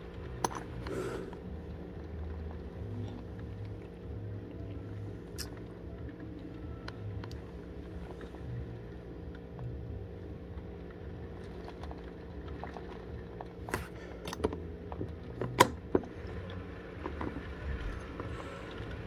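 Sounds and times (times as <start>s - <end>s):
rain pelting window: 0.0s - 19.0s.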